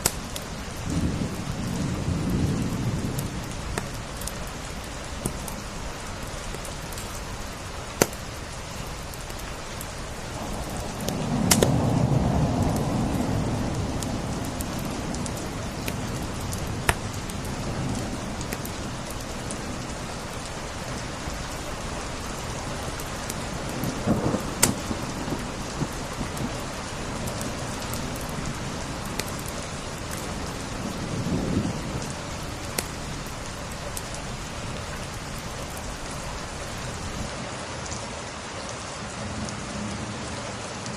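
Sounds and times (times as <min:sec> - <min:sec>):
wood fire crackling: 0:00.0 - 0:37.3
rain falling: 0:00.0 - 0:40.9.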